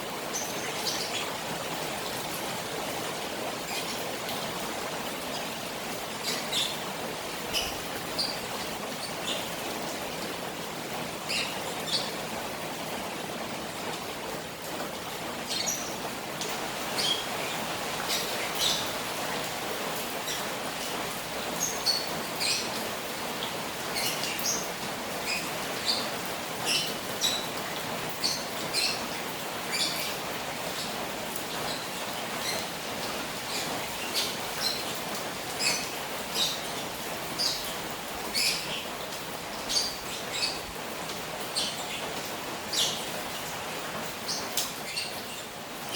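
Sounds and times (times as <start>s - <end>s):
rain on a pond: 0.0s - 45.9s.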